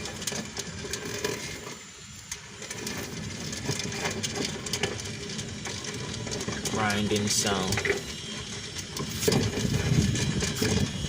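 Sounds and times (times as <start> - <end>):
wheel bearing grinding and rattling: 0.0 - 11.0.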